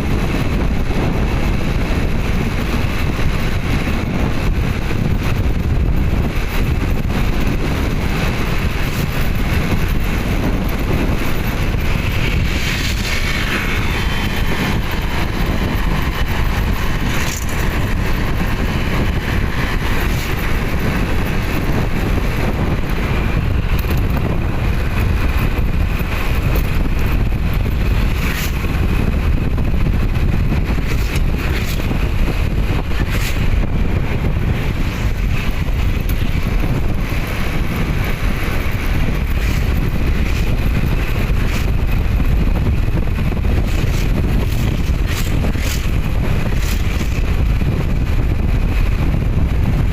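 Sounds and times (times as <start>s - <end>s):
moving vehicle running noise: 0.0s - 49.9s
wind rushing over microphone: 0.0s - 49.9s.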